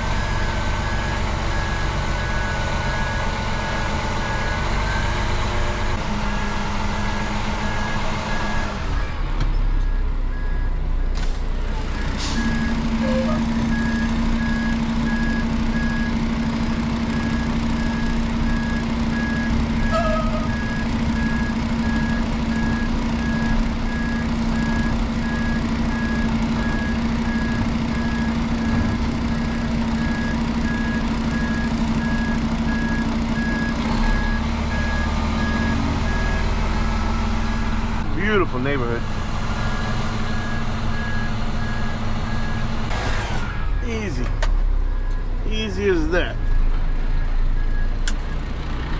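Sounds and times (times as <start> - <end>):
truck engine humming: 0.0 - 48.9
truck backup alarm beeping: 0.1 - 5.8, 7.0 - 38.7, 39.5 - 42.9, 44.8 - 48.7.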